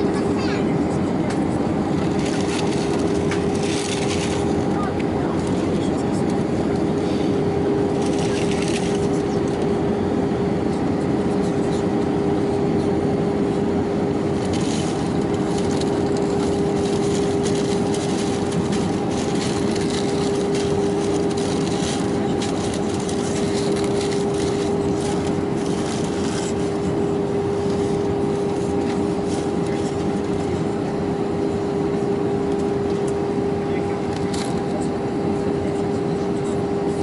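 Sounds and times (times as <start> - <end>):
airplane cabin rush: 0.0 - 37.0
constant droning tone: 0.0 - 37.0.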